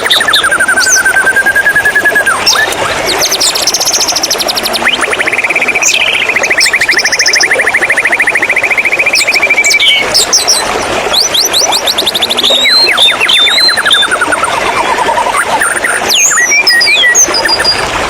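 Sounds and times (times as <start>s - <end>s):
running water hiss: 0.0s - 14.6s
bird singing trills and whistles: 0.0s - 17.9s.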